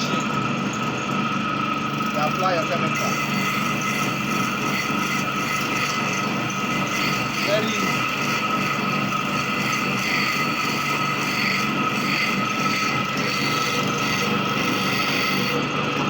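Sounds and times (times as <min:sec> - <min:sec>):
blade grinding: 0:00.0 - 0:16.0
sharpening machine motor hum: 0:00.0 - 0:16.0.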